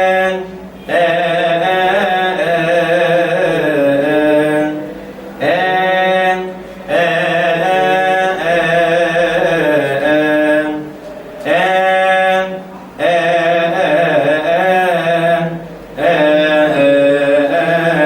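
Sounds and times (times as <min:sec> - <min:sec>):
man chanting a hymn: 0:00.0 - 0:18.0.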